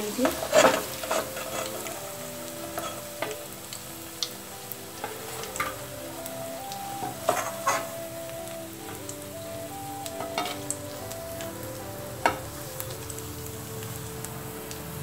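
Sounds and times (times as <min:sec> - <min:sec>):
kebabs sizzling in hot oil: 0:00.0 - 0:15.0.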